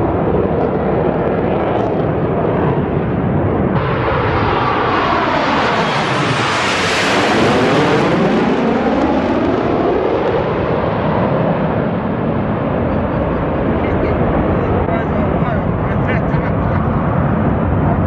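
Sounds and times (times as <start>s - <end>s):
jet aircraft passing overhead: 0.0s - 18.0s.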